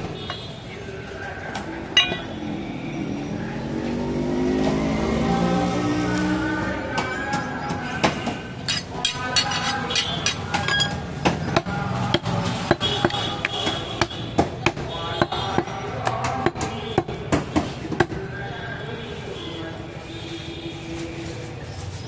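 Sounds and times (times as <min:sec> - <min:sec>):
voices: 0:00.0 - 0:22.0.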